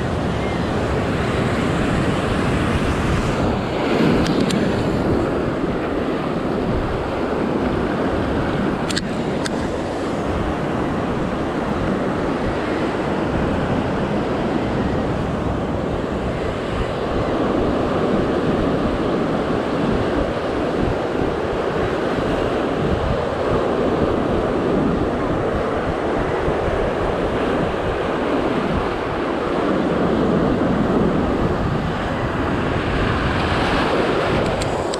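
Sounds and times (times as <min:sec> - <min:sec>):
surf breaking on rocky shore: 0:00.0 - 0:34.9
wind buffeting microphone: 0:00.0 - 0:34.9.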